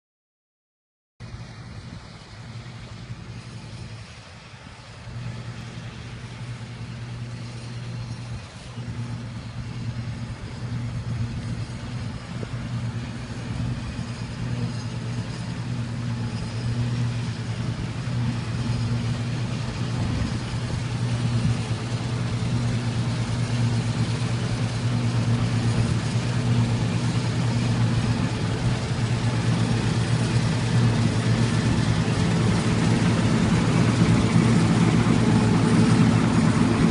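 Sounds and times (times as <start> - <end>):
combine harvester running: 1.2 - 36.9.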